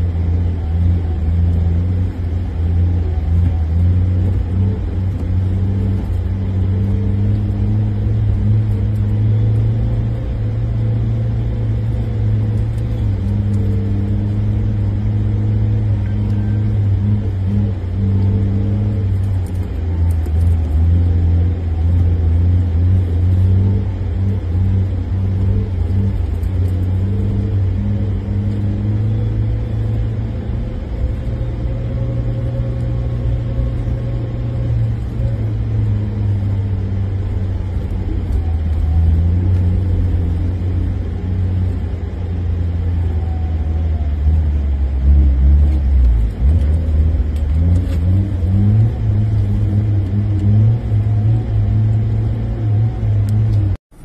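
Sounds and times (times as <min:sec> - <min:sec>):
car engine drone from inside cabin: 0:00.0 - 0:54.0.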